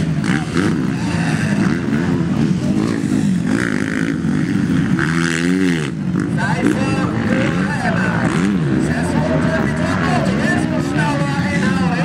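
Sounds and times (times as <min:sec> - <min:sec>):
motocross bikes revving: 0:00.0 - 0:12.0
nearby motorbike revving hard: 0:00.0 - 0:12.0.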